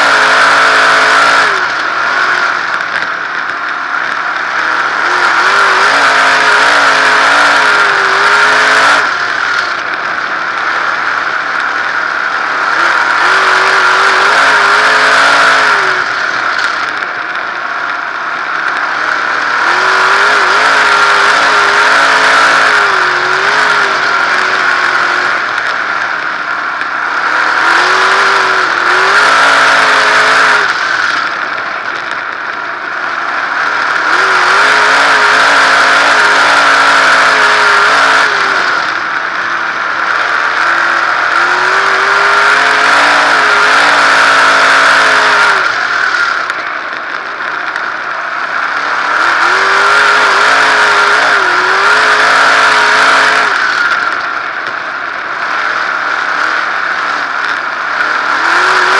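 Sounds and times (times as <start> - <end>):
race car engine revving: 0.0 - 58.9.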